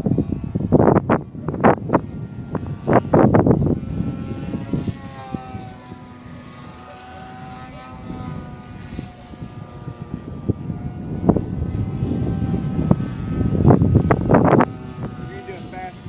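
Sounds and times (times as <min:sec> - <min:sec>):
model plane motor whine: 0:00.0 - 0:16.0
wind buffeting microphone: 0:00.0 - 0:16.0.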